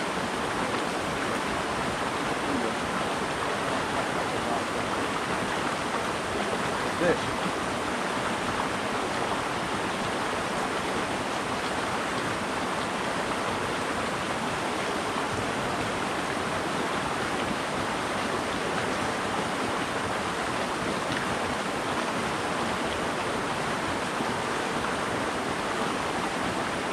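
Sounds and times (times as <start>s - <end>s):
water rushing over rocks: 0.0s - 26.9s.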